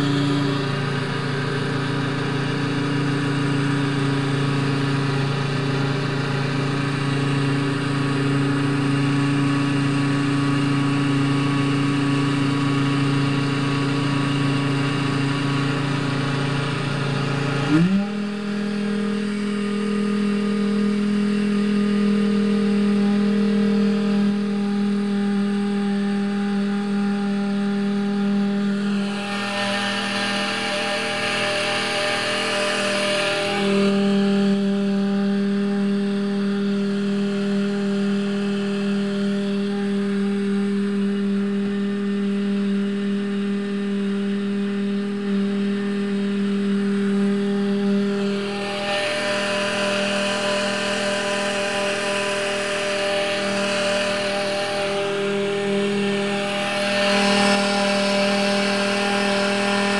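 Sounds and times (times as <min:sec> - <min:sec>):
motor running with high whine: 0:00.0 - 0:59.9.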